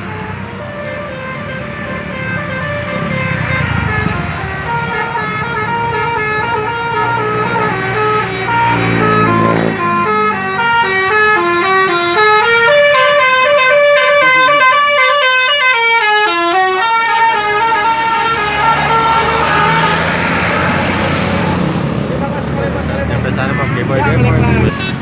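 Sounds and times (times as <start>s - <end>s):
electric air horns playing a tune: 0.0s - 21.6s, 23.3s - 25.0s
bus engine noise: 0.0s - 25.0s.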